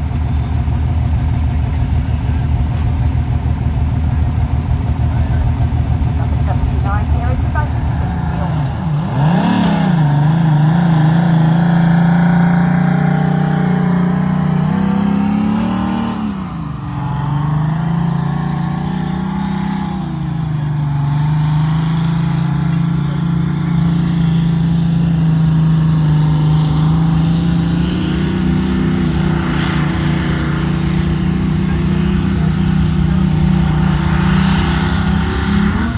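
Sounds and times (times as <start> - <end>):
tractor engine at high revs: 0.0 - 35.9.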